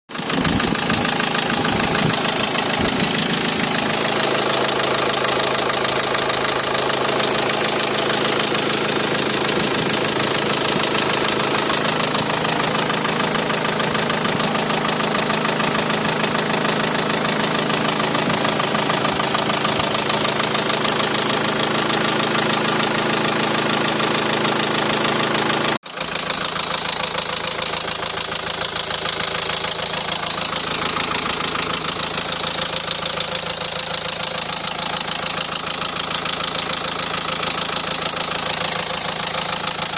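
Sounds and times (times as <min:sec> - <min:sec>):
diesel engine knocking: 0:00.1 - 0:39.9.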